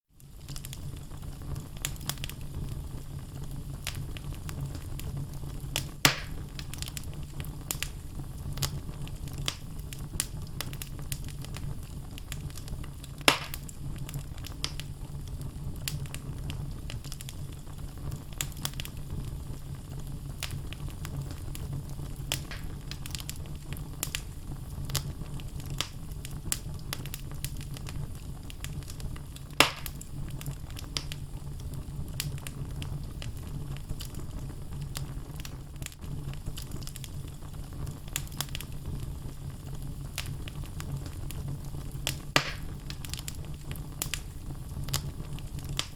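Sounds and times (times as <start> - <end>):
fire crackling and popping: 0.1 - 45.9
logs burning in a fireplace: 0.1 - 45.9.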